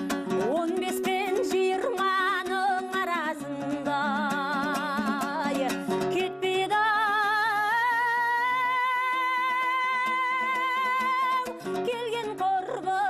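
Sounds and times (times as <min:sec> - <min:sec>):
fast plucked lute: 0:00.0 - 0:13.0
woman singing folk song: 0:00.0 - 0:13.0.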